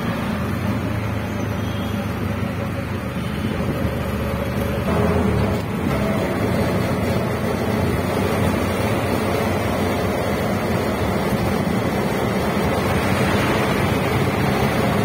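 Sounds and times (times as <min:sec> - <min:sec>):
auto-rickshaw engine: 0:00.0 - 0:15.0
road and traffic noise: 0:00.0 - 0:15.0.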